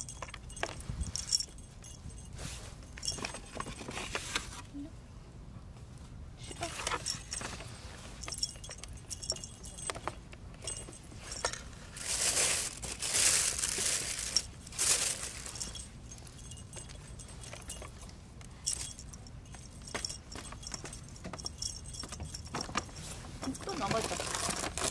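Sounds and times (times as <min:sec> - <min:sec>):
crinkly toy rustling: 0:00.0 - 0:04.7, 0:06.4 - 0:24.9.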